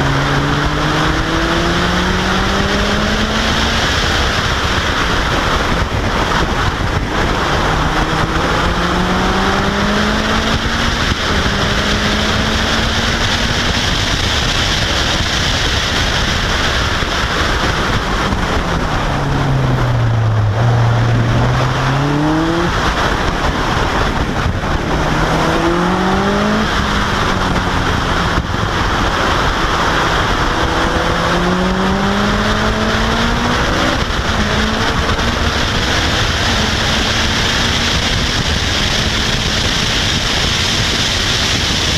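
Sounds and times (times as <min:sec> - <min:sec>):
car engine revving through gears: 0:00.0 - 0:41.9
wind rush on microphone: 0:00.0 - 0:41.9.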